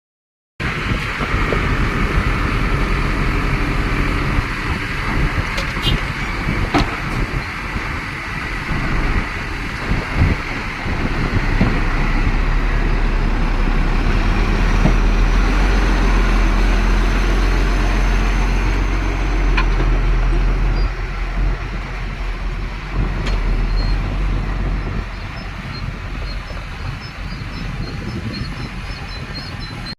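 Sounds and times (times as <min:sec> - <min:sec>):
diesel machinery droning: 0:00.6 - 0:29.9.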